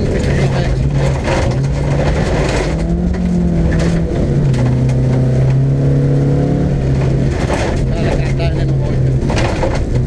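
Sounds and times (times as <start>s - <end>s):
tyres rumbling on gravel: 0.0s - 5.8s, 6.6s - 10.0s
car engine running hard: 0.0s - 10.0s.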